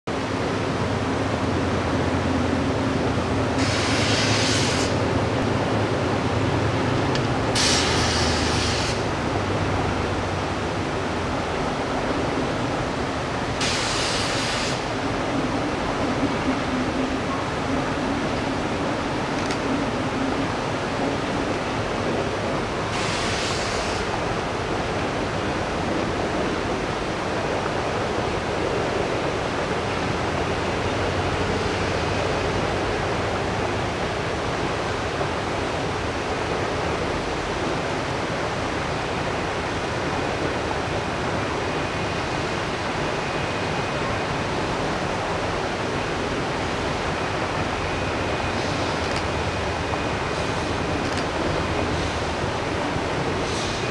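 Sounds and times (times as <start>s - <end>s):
river rushing over rocks: 0.1s - 53.9s.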